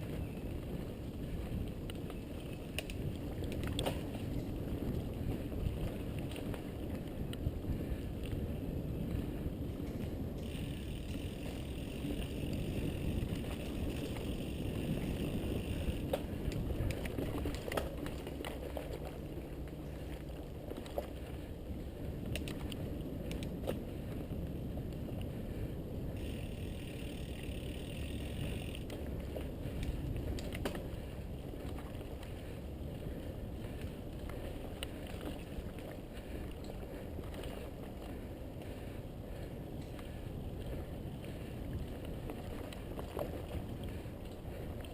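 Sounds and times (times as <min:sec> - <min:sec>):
bike clicking and rattling: 0:00.0 - 0:44.9
bike tyres rumbling on dirt: 0:00.0 - 0:44.9
wind on microphone: 0:00.0 - 0:44.9.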